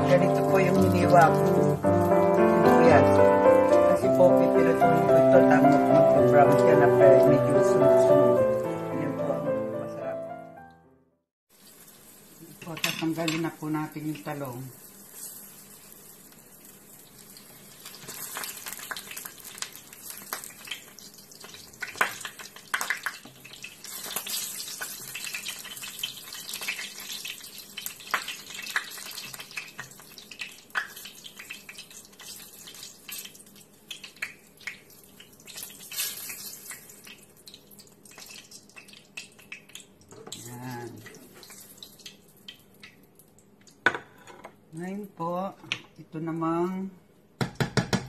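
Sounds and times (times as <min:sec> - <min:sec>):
hot oil sizzling in a pan: 0:00.0 - 0:07.4, 0:11.5 - 0:42.9.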